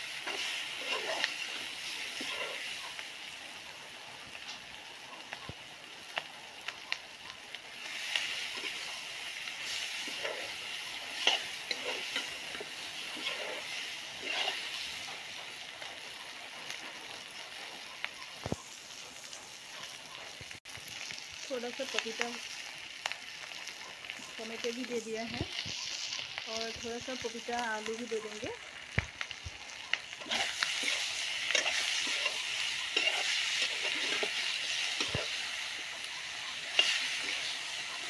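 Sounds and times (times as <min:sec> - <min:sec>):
curry sizzling in a pan: 0:00.0 - 0:38.0.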